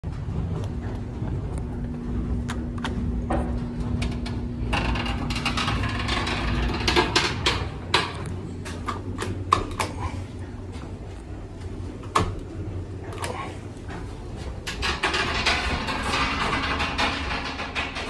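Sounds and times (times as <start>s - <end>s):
low rumble and hum: 0.0s - 18.0s
elevator doors sliding open: 0.1s - 18.0s.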